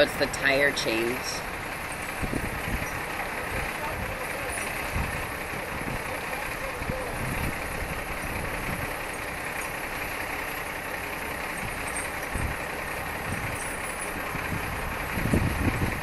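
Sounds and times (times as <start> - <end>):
distant vehicle engine idling: 0.0 - 16.0.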